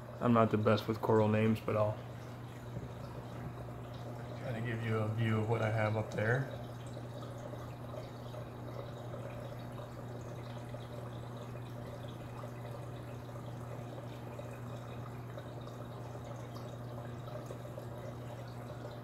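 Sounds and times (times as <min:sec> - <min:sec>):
aquarium water trickling: 0:00.0 - 0:19.0
constant low hum: 0:00.0 - 0:19.0.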